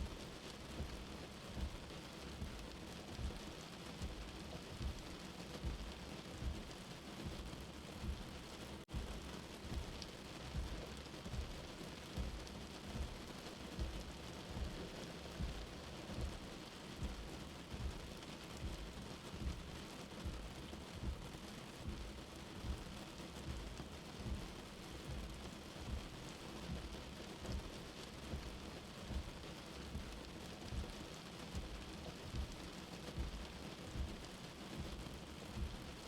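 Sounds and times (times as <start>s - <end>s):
soft low heartbeat: 0.0s - 36.0s
steady rain: 0.0s - 36.0s.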